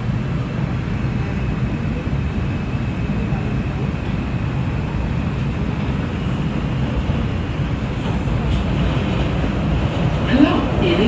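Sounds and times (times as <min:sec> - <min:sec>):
subway train wheels rumbling on rails: 0:00.0 - 0:11.0.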